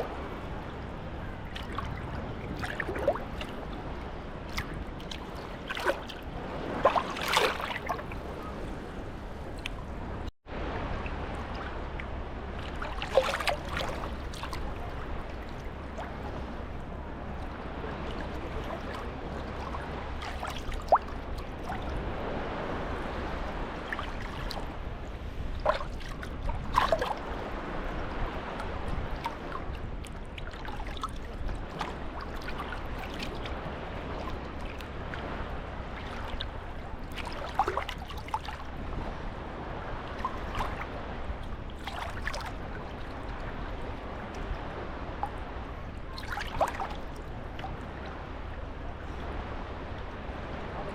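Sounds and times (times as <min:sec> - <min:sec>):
small waves lapping at shore: 0:00.0 - 0:50.9
water splashes: 0:00.0 - 0:50.9.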